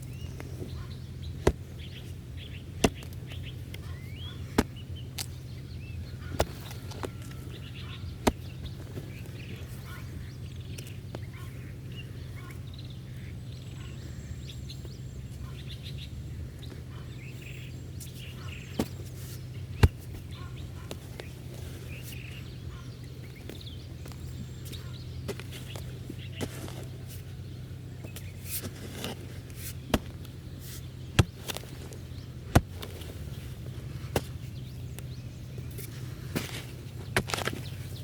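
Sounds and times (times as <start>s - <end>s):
birds chirping and calling: 0.0s - 38.0s
steady low hum: 0.0s - 38.0s.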